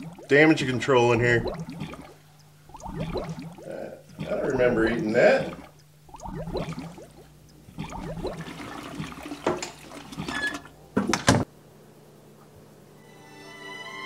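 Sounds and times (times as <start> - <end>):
toilet flushing: 0.0 - 11.4.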